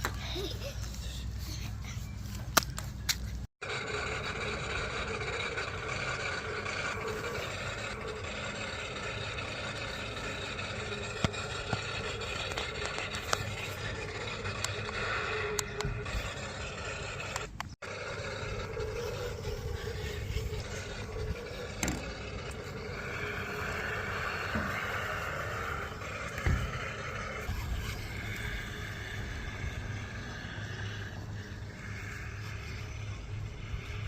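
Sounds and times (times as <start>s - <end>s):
tyres scraping over ground: 0.0s - 34.0s
toy truck electric motor whining: 3.1s - 34.0s.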